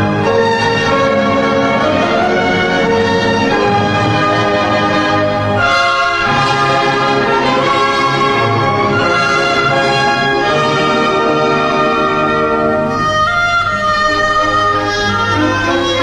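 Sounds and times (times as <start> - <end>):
orchestral music with brass chords: 0.0 - 16.0.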